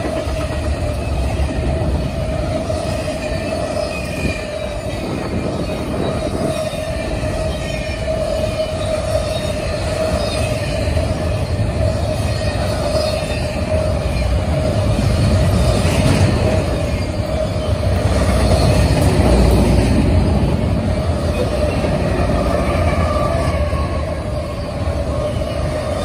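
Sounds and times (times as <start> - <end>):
train wheels rumbling on rails: 0.0 - 26.0
wheels squealing: 0.2 - 26.0.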